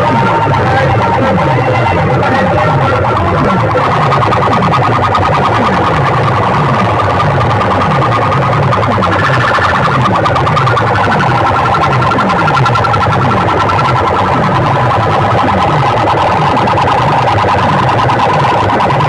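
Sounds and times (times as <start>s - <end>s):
electronic dance music: 0.0s - 19.0s
pulsing alarm-like tone: 0.0s - 19.0s.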